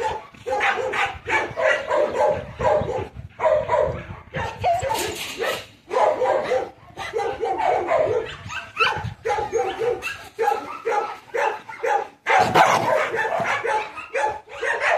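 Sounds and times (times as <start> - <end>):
dog barking and yipping: 0.0 - 14.9.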